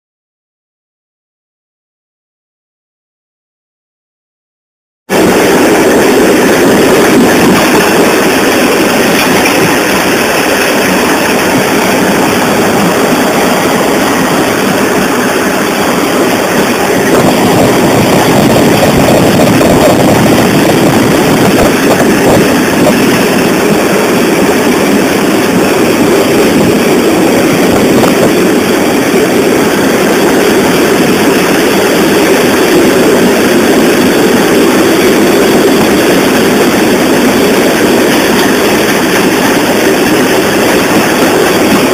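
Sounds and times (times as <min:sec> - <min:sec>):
passenger train running at speed: 0:05.1 - 0:41.9.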